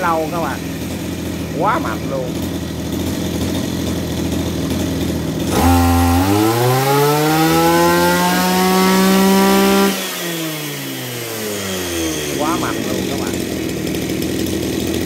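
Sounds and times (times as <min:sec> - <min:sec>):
brush cutter engine revving: 0:00.0 - 0:15.0.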